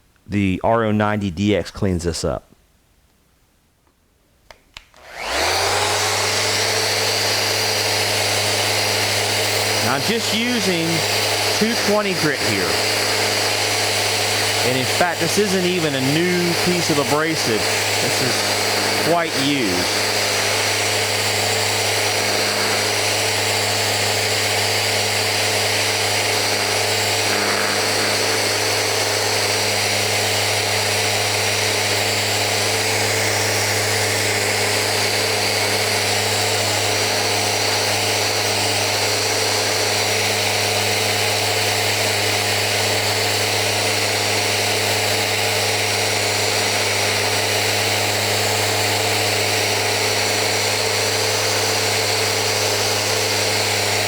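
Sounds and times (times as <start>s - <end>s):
orbital sander sanding wood: 5.0s - 54.0s.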